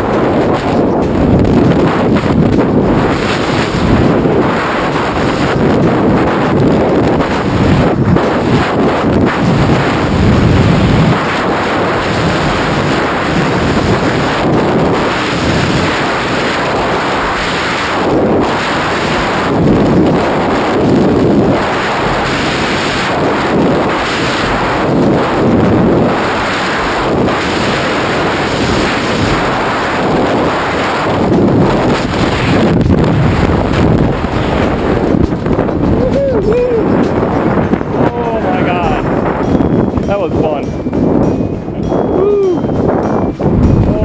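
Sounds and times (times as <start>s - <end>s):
wind blasting over microphone: 0.0s - 44.0s.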